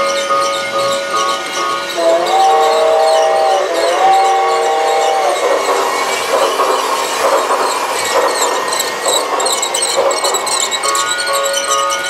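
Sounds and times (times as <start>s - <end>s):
toy train motor running: 0.0s - 12.0s
toy train wheels clattering: 0.0s - 12.0s.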